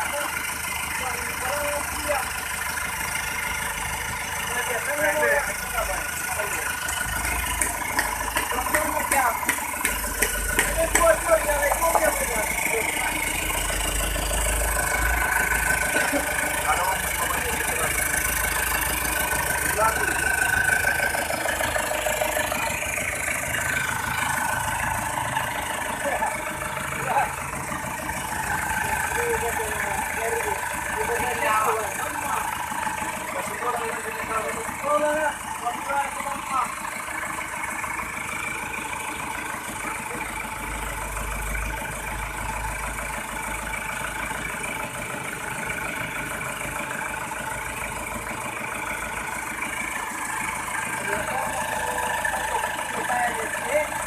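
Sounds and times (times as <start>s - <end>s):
diesel engine idling with clatter: 0.0s - 54.0s.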